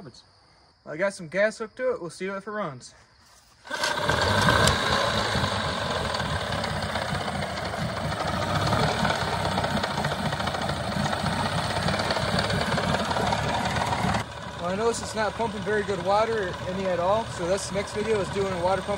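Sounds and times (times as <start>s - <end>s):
outboard motor starting and idling: 3.6s - 18.9s.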